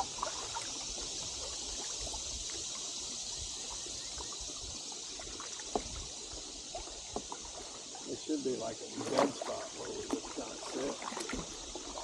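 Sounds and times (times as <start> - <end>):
river water rippling and trickling: 0.0 - 12.0
water splashes and drips: 0.0 - 12.0.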